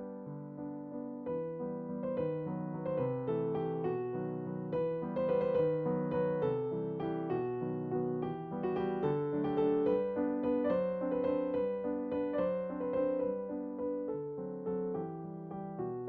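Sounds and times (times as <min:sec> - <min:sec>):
slow gentle piano melody: 0:00.0 - 0:16.0.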